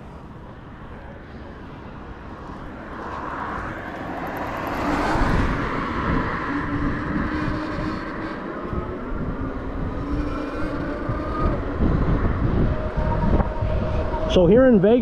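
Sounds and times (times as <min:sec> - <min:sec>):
road and traffic rumble: 0:00.0 - 0:15.0.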